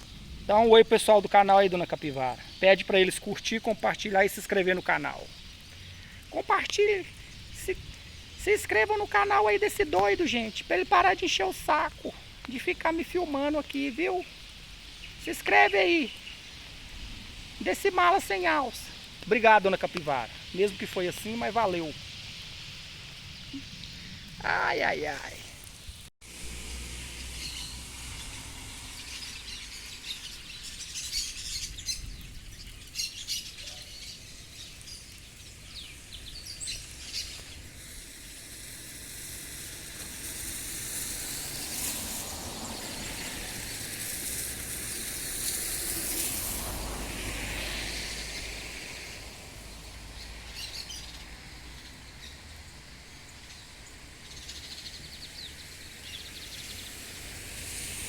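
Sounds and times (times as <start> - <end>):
birds chirping: 0.0 - 26.1, 27.0 - 38.9, 47.6 - 57.3
rain hiss: 0.0 - 58.0.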